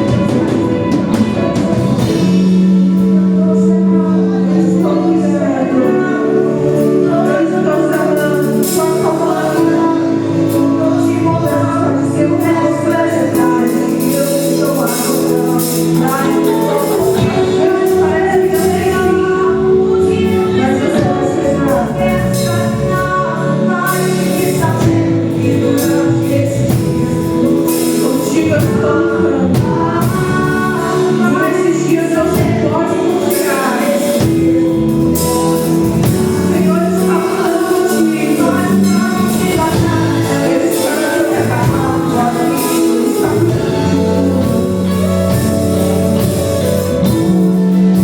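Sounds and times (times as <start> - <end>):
band playing: 0.0 - 48.0
group of voices singing: 0.0 - 48.0.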